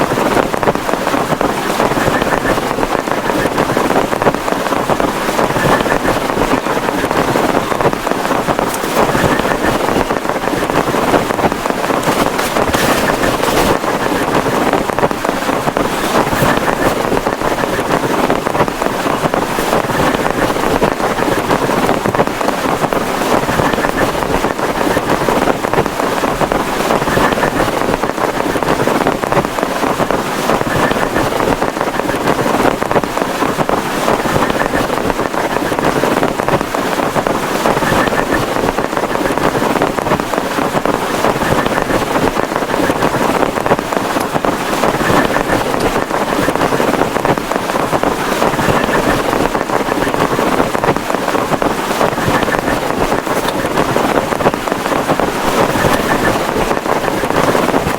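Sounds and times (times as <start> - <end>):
heavy rain pouring: 0.0 - 57.9
strong wind: 0.0 - 57.9.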